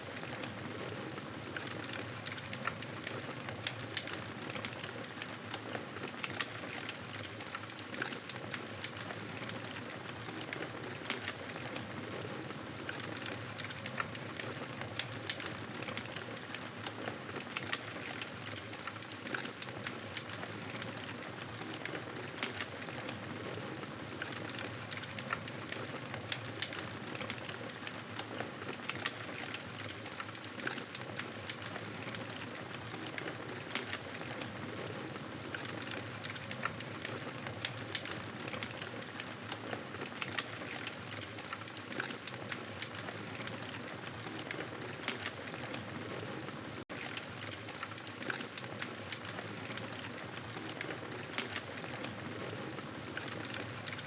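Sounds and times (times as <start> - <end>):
campfire crackling: 6.1 - 54.0.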